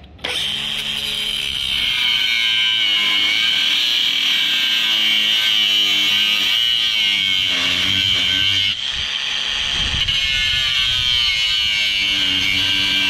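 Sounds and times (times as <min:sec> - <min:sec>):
angle grinder cutting metal: 0:00.2 - 0:13.0.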